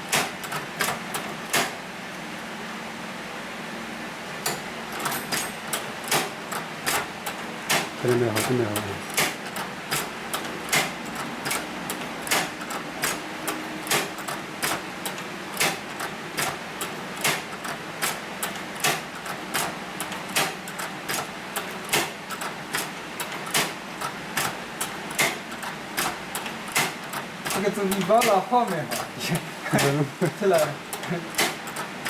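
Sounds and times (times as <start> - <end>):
sewing machine clacking: 4.4 - 32.0.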